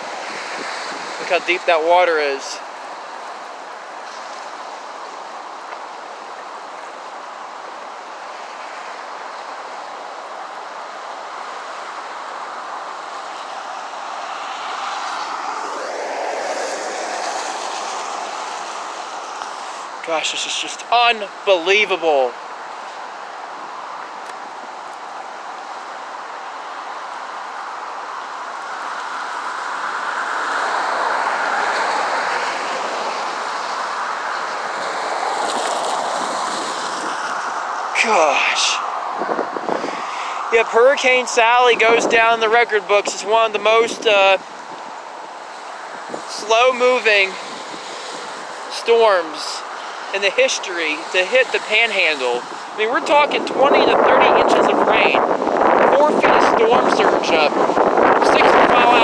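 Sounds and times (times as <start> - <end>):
steady rushing noise: 0.0 - 59.0
vehicle driving through floodwater: 7.0 - 24.0, 24.7 - 59.0.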